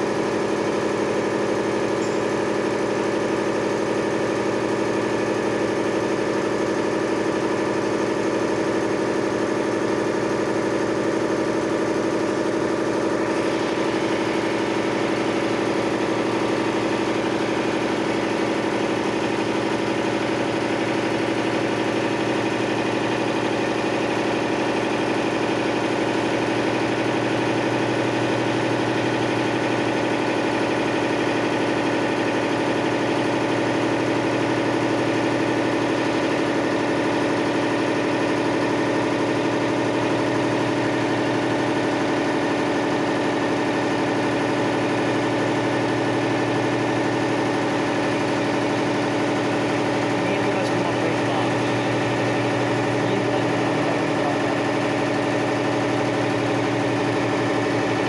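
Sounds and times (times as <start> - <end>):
air compressor running: 0.0 - 58.0.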